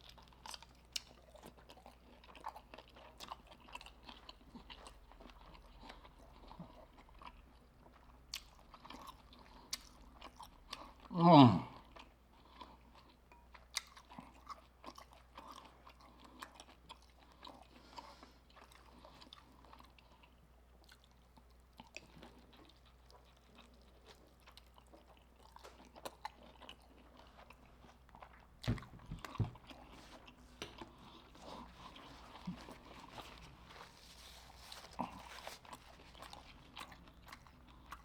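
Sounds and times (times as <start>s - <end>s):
chewing and crunching food: 0.0s - 38.0s.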